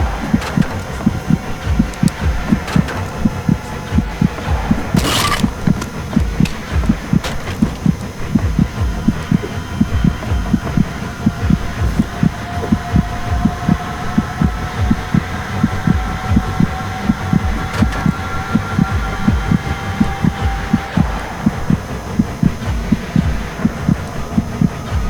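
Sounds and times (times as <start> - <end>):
faint steady whine: 0.0 - 25.0
rapid low thumping: 0.0 - 25.0.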